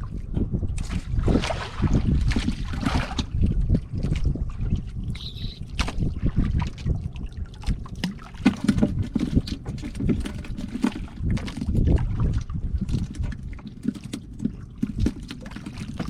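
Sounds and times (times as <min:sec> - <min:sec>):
low uneven rumble: 0:00.0 - 0:16.0
water lapping against boat: 0:00.0 - 0:16.0
knocks and clicks on boat: 0:02.2 - 0:16.0.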